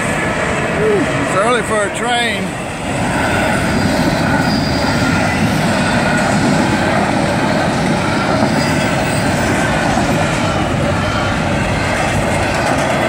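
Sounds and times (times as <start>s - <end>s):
train rumbling past: 0.0s - 13.0s
wheels clattering on rails: 0.0s - 13.0s.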